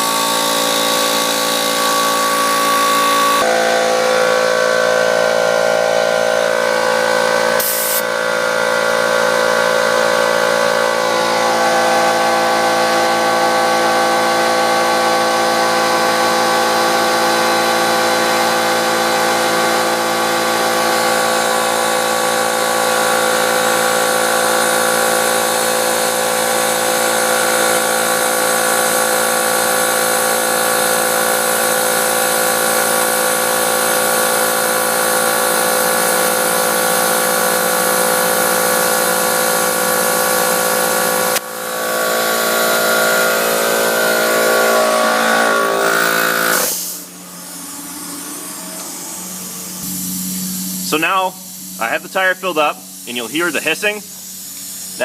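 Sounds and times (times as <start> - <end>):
air compressor running: 0.0 - 55.0.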